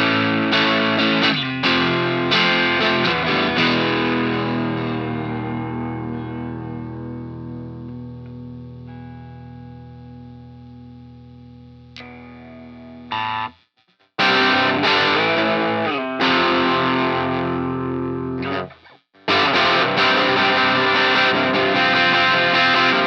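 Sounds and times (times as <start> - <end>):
distorted electric guitar chords: 0.0 - 23.0.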